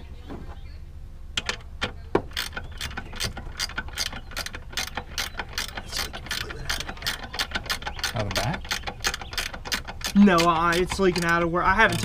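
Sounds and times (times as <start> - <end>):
ratchet wrench clicking: 2.3 - 12.0.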